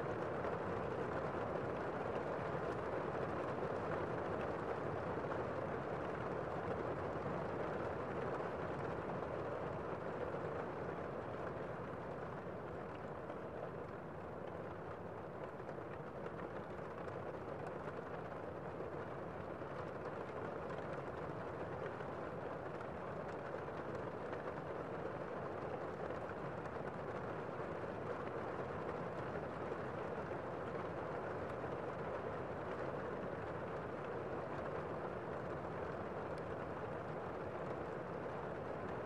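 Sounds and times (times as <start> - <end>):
muffled heavy rain: 0.0 - 39.0.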